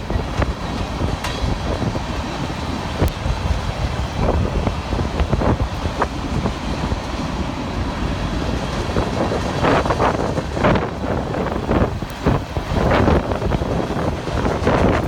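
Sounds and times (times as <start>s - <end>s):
passing train rumble: 0.0s - 15.0s
wind on microphone: 0.0s - 15.0s.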